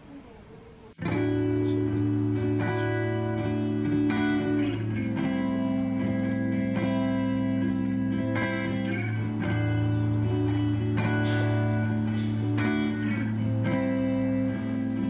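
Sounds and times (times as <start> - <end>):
plucked guitar chords: 1.0 - 15.0.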